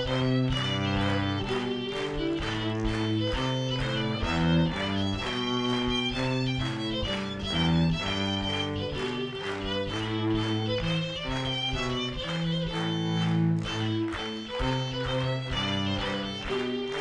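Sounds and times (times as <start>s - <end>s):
cello sustained low notes: 0.0s - 17.0s
fiddle bowed melody: 0.0s - 17.0s.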